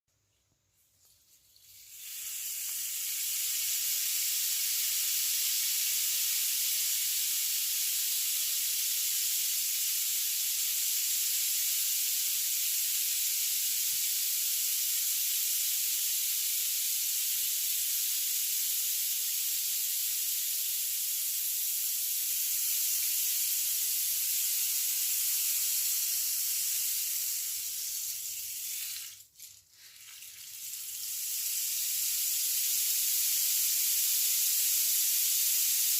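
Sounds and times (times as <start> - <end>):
rain stick rushing hiss: 1.0 - 35.9.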